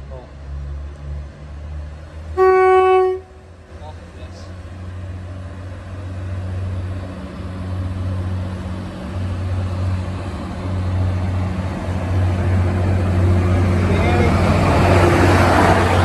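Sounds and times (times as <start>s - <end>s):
train diesel engine droning: 0.2s - 16.0s.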